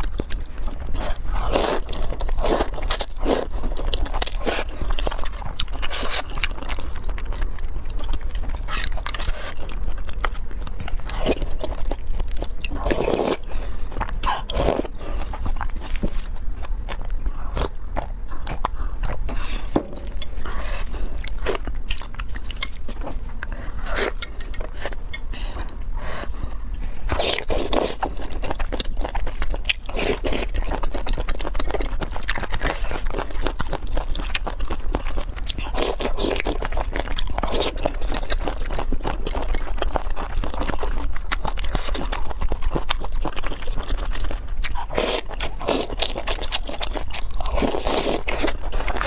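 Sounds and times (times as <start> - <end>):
crunchy biting and chewing: 0.0 - 49.0.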